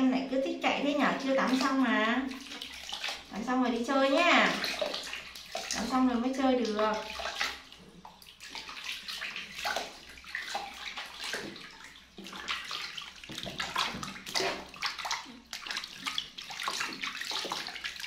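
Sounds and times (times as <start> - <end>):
water splashing in a bath: 0.0 - 18.0.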